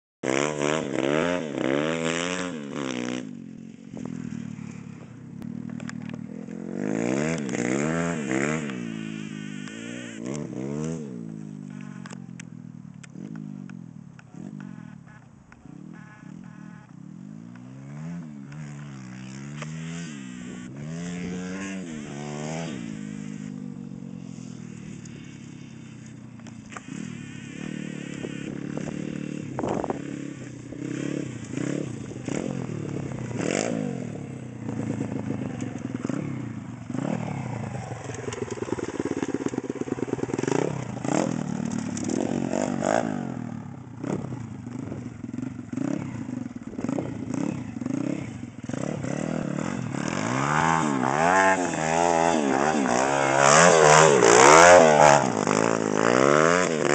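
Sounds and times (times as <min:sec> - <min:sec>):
motorbike engine revving: 0:00.2 - 0:56.9.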